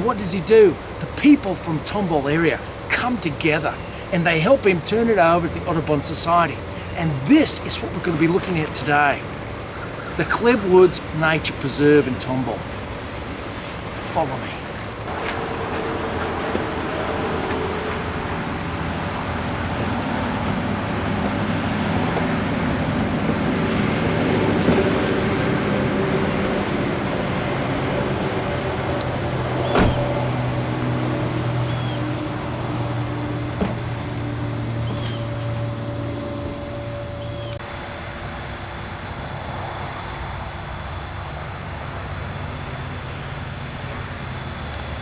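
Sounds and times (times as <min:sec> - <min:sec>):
vehicle engine humming: 0:00.0 - 0:45.0.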